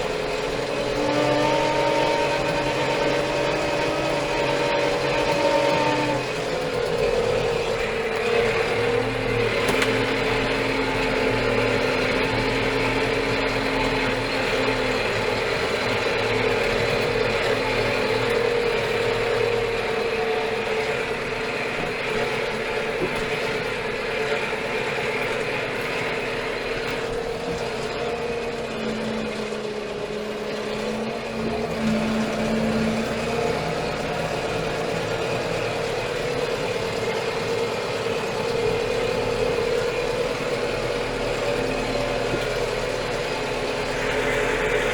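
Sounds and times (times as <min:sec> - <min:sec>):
mechanical whine: 0:00.0 - 0:44.9
tractor diesel engine running: 0:00.0 - 0:44.9.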